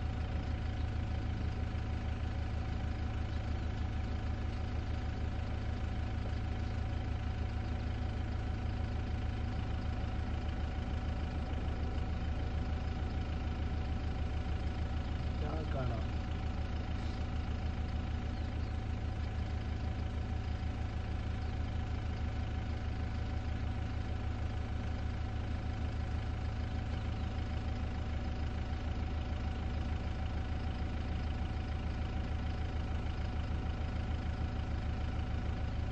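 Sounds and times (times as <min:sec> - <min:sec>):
engine idling: 0:00.0 - 0:35.9.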